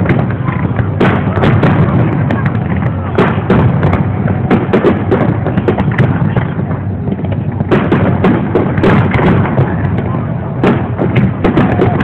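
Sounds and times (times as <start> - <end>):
continuous rumble: 0.0 - 12.0
firework bangs and crackles: 0.0 - 12.0.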